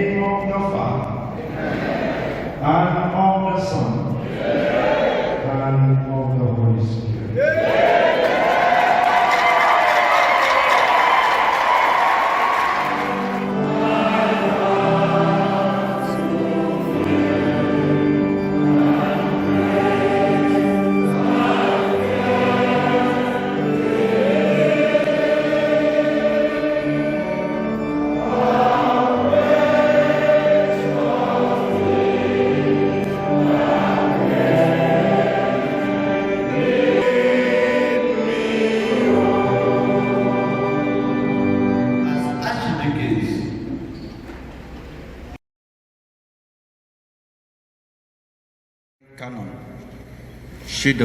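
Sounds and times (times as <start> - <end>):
choir singing a hymn: 0.6 - 43.9.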